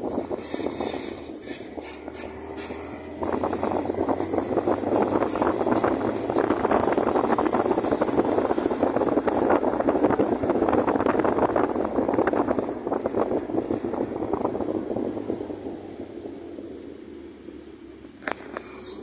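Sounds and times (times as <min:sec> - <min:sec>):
wind buffeting microphone: 0:00.0 - 0:17.0
vehicle road noise: 0:00.0 - 0:19.0.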